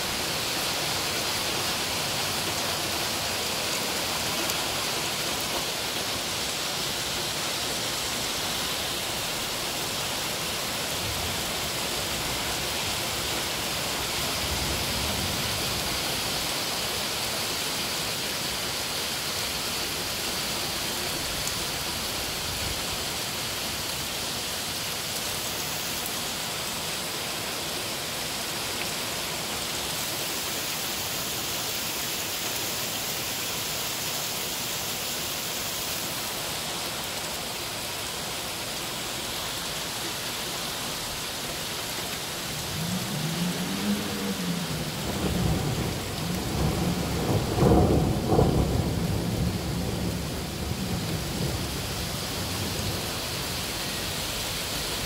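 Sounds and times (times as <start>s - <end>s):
heavy rain and hail pelting: 0.0s - 55.0s.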